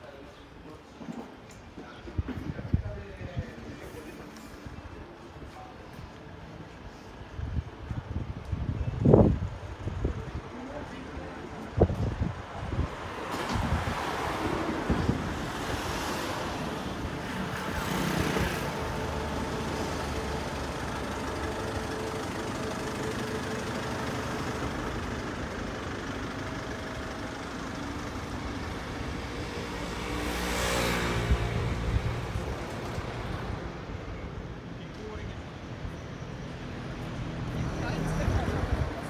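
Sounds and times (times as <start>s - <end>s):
vehicles passing: 0.0s - 39.0s.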